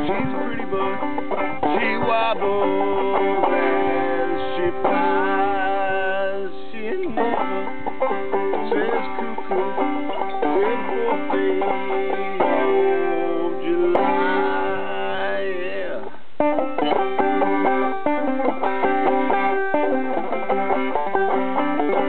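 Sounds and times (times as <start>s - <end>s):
banjo playing: 0.0s - 22.0s.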